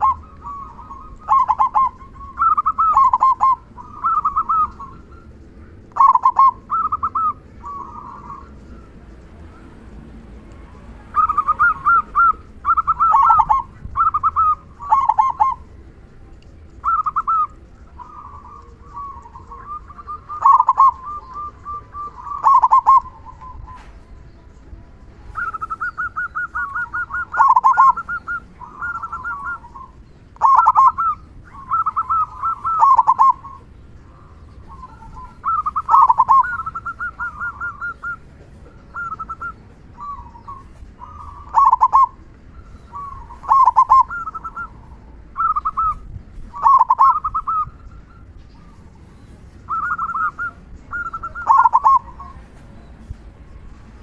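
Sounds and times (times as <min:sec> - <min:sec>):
dove cooing song: 0:00.0 - 0:54.0.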